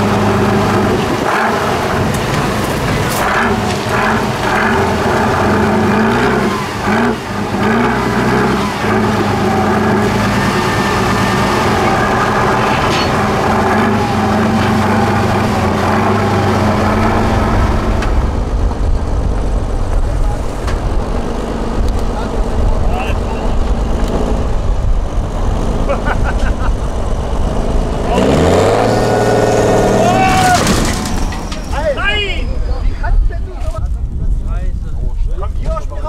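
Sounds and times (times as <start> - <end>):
deep engine rumble: 0.0 - 36.0
heavy diesel engines under load: 0.0 - 36.0.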